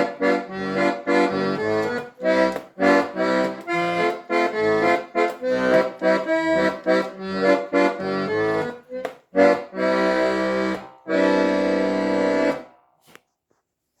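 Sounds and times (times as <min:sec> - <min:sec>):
accordion playing: 0:00.0 - 0:12.7.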